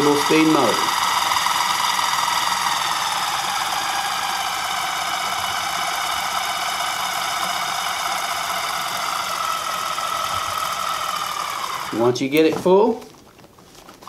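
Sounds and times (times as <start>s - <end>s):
electric motor whine: 0.0s - 12.3s.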